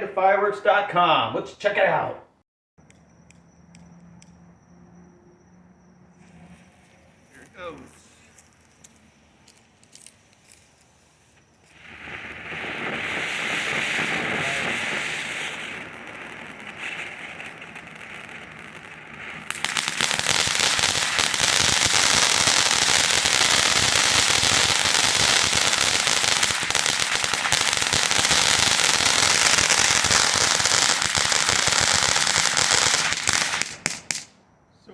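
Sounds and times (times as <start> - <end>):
firework fountain hissing and crackling: 6.1 - 34.3
firework pops: 6.2 - 34.3.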